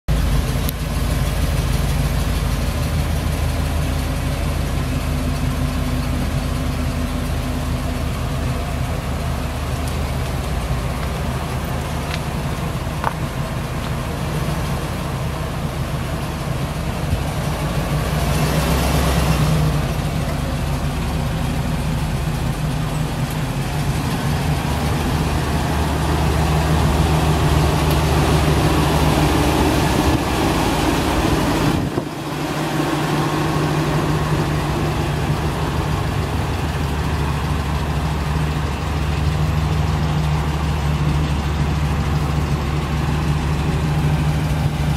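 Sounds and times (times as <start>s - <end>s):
pickup engine idling: 0.1s - 44.9s.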